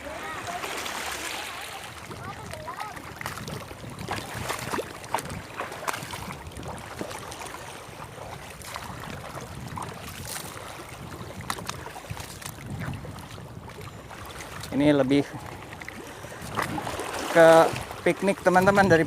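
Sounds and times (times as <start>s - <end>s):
water splashing and lapping: 0.0s - 19.0s
wind on microphone: 1.7s - 19.0s.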